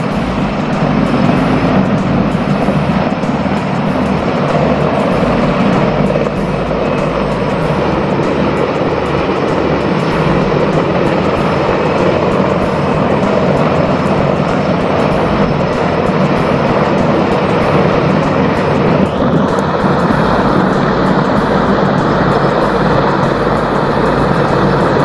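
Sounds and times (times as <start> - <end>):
helicopter hovering: 0.0 - 25.0.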